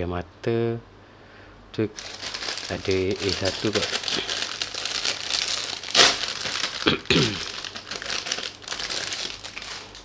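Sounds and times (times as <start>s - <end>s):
plastic bag crinkling: 1.9s - 10.0s.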